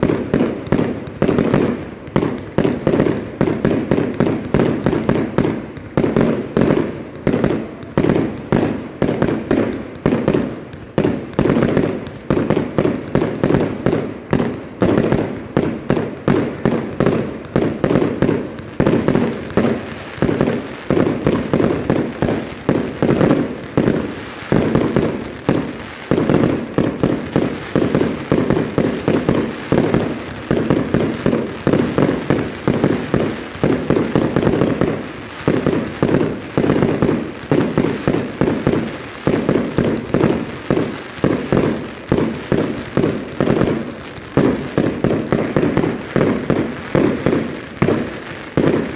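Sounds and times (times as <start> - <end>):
fireworks exploding: 0.0 - 48.9.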